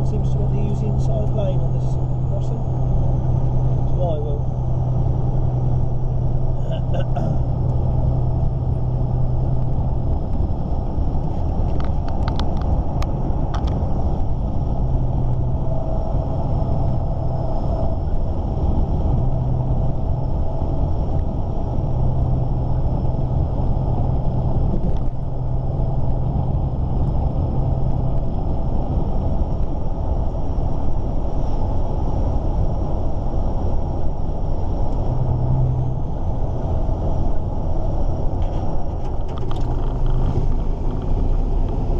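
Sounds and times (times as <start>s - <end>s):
road rumble: 0.0s - 41.9s
truck engine droning: 0.0s - 41.9s.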